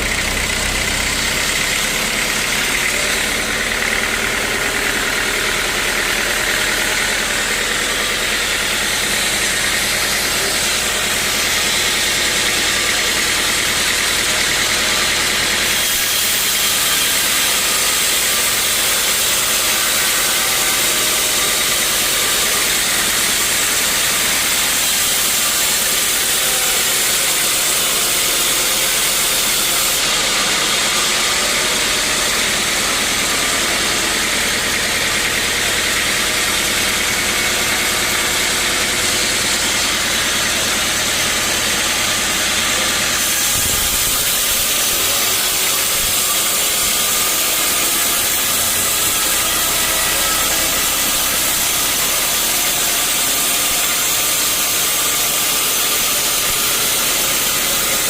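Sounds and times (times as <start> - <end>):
sawmill machinery hissing: 0.0 - 58.0.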